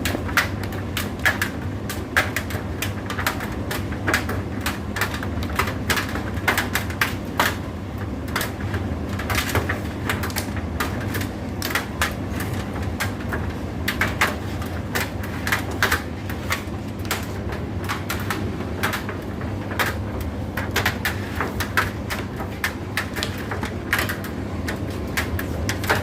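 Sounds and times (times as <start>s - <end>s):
tumble dryer motor hum: 0.0s - 26.0s.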